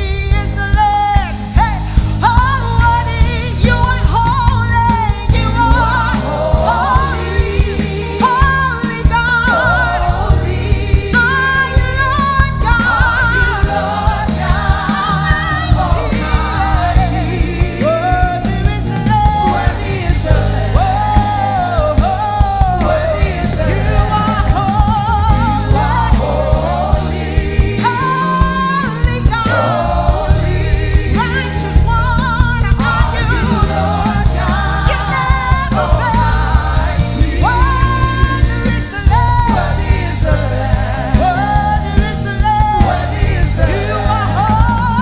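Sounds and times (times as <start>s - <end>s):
gospel band with steady beat: 0.0s - 45.0s.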